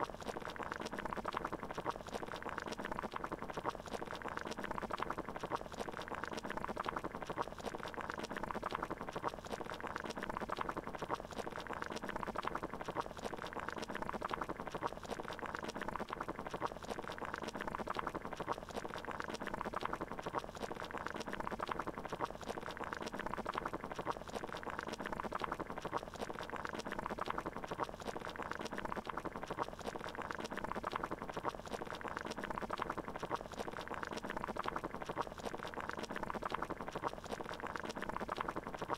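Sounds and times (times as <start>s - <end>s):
water boiling: 0.0s - 38.9s.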